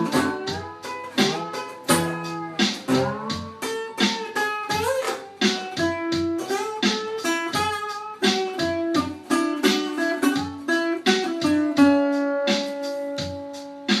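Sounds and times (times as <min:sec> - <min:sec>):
low beat: 0:00.0 - 0:14.0
plucked guitar melody: 0:00.0 - 0:14.0.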